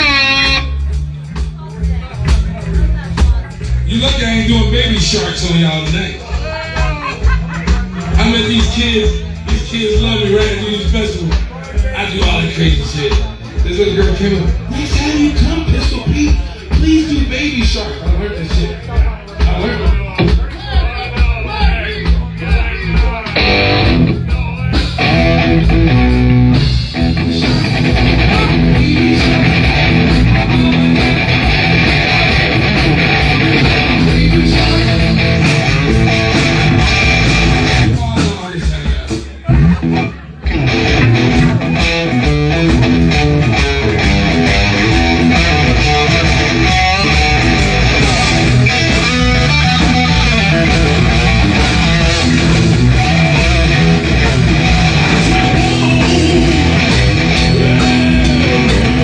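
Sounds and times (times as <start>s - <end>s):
electric guitar: 0.0s - 18.6s, 22.8s - 38.4s, 39.1s - 59.0s
amplified band music: 0.0s - 59.0s.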